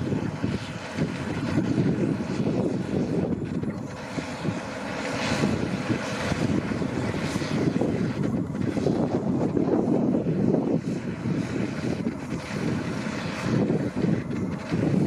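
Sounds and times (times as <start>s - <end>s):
combine harvester heavy drone: 0.0s - 15.0s.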